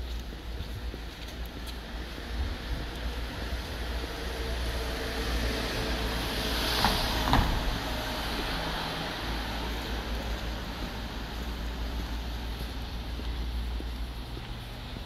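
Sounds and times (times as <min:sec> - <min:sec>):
vehicle passing: 0:01.8 - 0:15.0.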